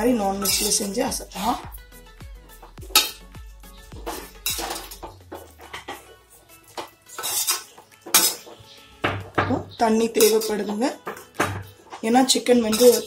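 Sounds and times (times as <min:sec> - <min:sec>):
soft background music: 0:00.0 - 0:13.0
metal spoon scraping a pan: 0:00.2 - 0:01.6, 0:03.0 - 0:09.4, 0:10.0 - 0:13.0.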